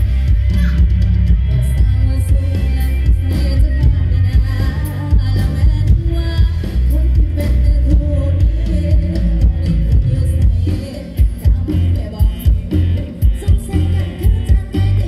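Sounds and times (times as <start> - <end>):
drums: 0.0 - 15.0
heavy bass line: 0.0 - 15.0
woman singing into a microphone: 0.5 - 15.0.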